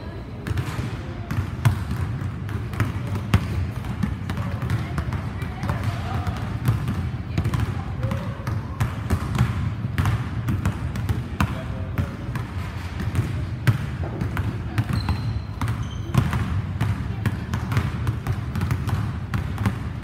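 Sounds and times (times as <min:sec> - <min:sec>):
basketball bouncing on hardwood: 0:00.4 - 0:11.6, 0:12.3 - 0:19.9.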